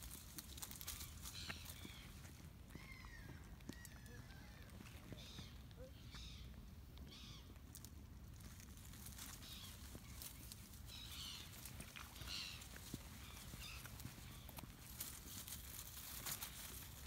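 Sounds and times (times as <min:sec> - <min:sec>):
rustling in weeds: 0:00.0 - 0:05.2, 0:07.6 - 0:17.0.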